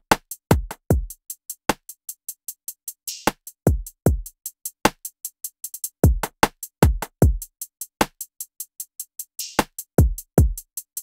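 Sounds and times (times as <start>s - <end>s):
ticking hi-hats: 0.0s - 11.0s.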